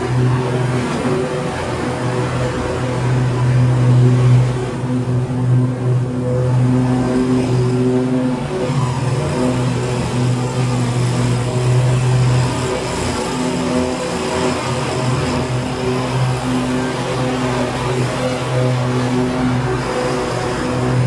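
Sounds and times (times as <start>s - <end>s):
mower engine running: 0.0s - 21.0s.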